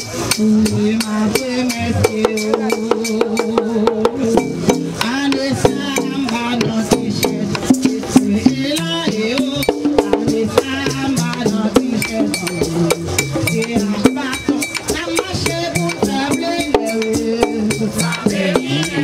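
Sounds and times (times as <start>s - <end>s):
drums beating fast rhythm: 0.0s - 19.0s
voices singing together: 0.1s - 19.0s.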